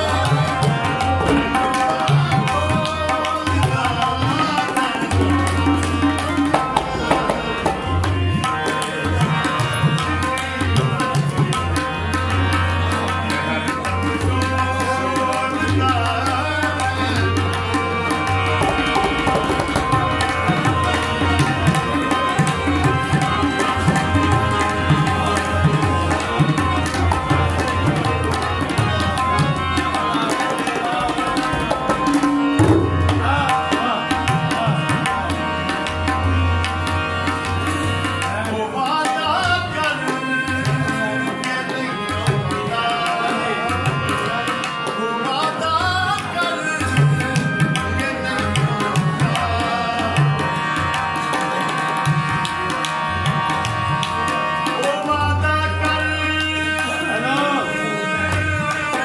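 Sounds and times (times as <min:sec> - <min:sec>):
harmonium chords: 0:00.0 - 0:59.0
tabla rhythm: 0:00.0 - 0:59.0.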